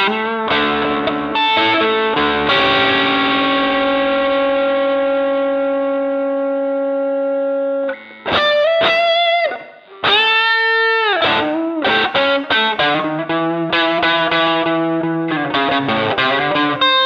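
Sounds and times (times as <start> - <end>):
electric guitar: 0.0 - 17.0.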